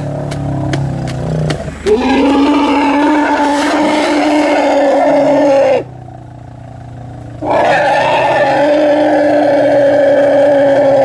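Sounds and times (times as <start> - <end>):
vehicle engine running at high revs: 0.0 - 11.0.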